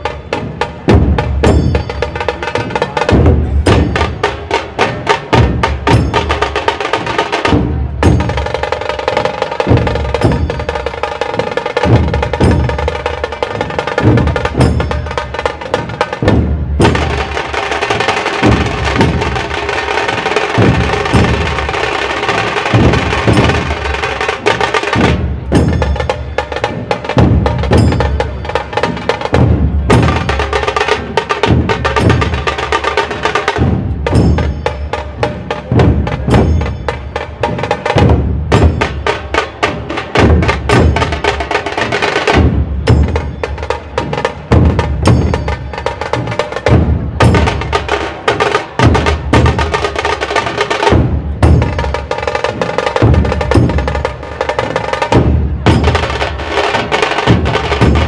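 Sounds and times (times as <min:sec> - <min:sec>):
dhol drums pounding deep beat: 0:00.0 - 0:58.0.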